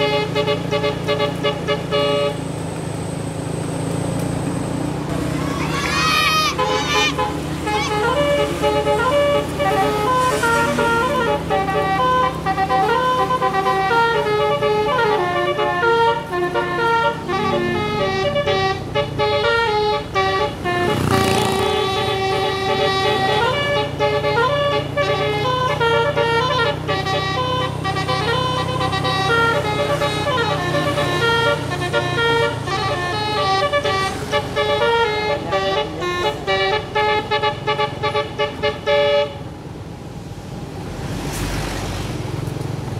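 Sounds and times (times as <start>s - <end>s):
musical air horn tune: 0.0s - 2.5s, 5.9s - 39.4s.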